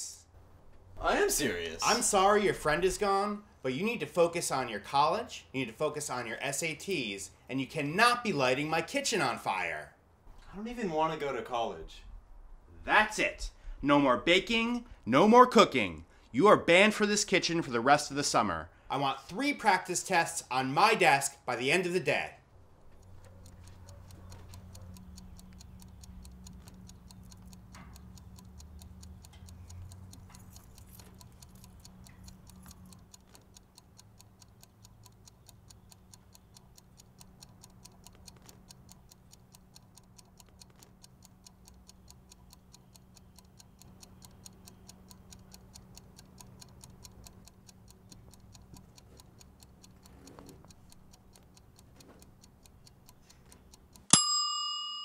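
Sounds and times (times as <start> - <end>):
kitchen timer ticking: 1.4 - 9.8, 16.7 - 55.0.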